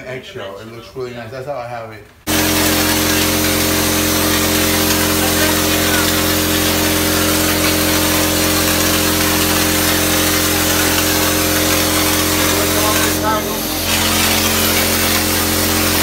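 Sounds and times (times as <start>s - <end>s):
hiss of spray: 2.3s - 16.0s
sprayer machine hum: 2.3s - 16.0s.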